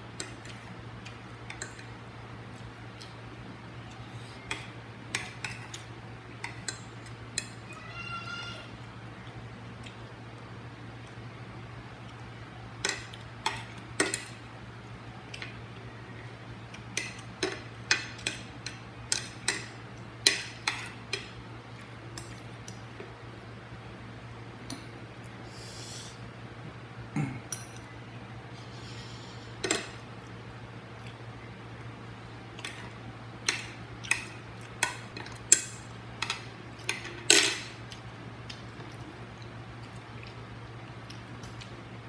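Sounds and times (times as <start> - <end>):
steady low hum: 0.0 - 8.0, 8.6 - 42.0.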